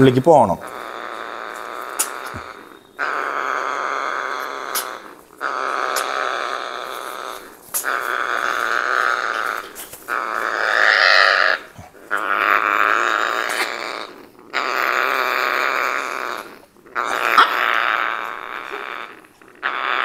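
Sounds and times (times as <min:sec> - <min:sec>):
parrot chicks rasping begging calls: 0:00.0 - 0:20.0.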